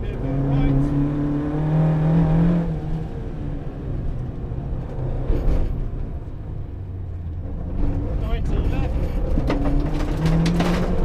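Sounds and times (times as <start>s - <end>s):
rally car engine revving: 0.0s - 6.3s, 7.2s - 11.0s.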